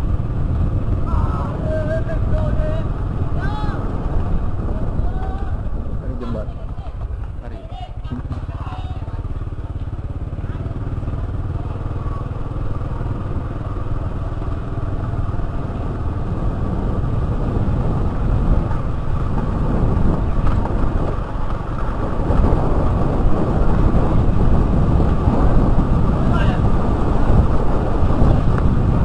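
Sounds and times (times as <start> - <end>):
scooter engine humming: 0.0 - 29.0
tyre and wind noise: 0.0 - 29.0.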